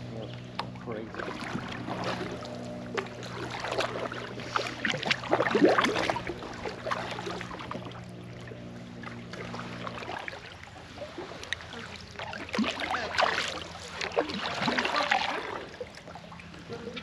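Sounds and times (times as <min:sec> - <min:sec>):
steady low hum: 0:00.0 - 0:17.0
kayak paddle splashing: 0:00.4 - 0:17.0.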